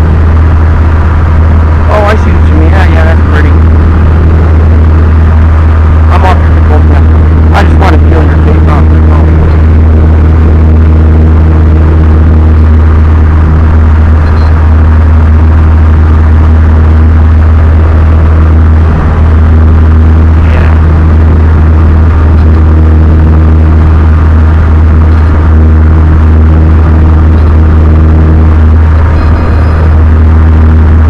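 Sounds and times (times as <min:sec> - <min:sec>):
aircraft engine and propeller droning: 0:00.0 - 0:31.0.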